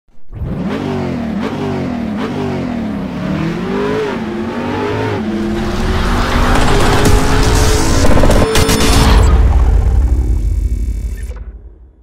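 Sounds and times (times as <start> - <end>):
car engine revving: 0.3 - 11.0.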